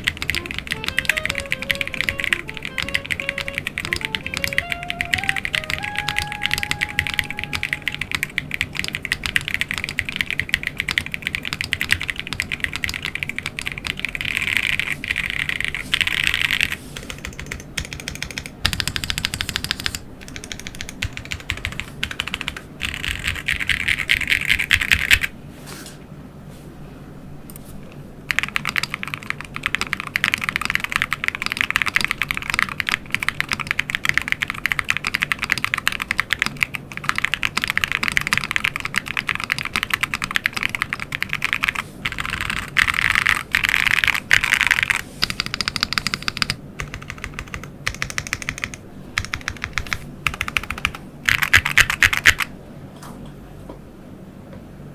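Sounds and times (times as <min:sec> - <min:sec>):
mechanical keyboard typing: 0:00.0 - 0:25.3, 0:28.3 - 0:52.5.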